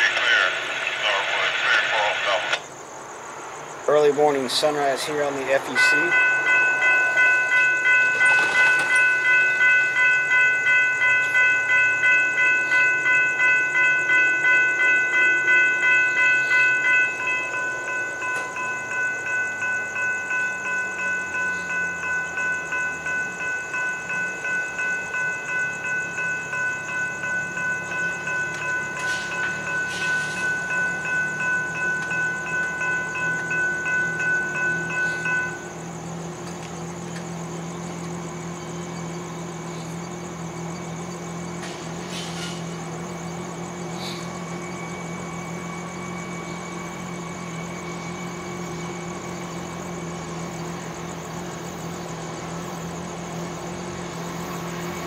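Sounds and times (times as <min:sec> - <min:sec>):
railroad crossing bells ringing: 0:00.0 - 0:02.9, 0:03.6 - 0:55.0.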